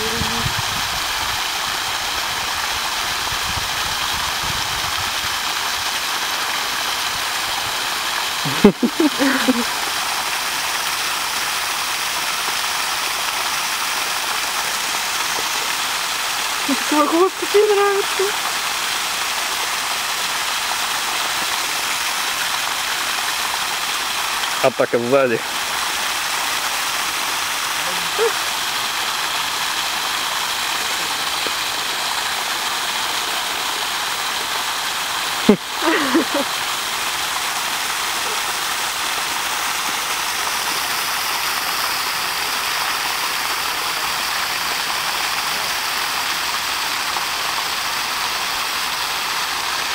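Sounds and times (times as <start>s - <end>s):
running water hiss: 0.0s - 49.9s.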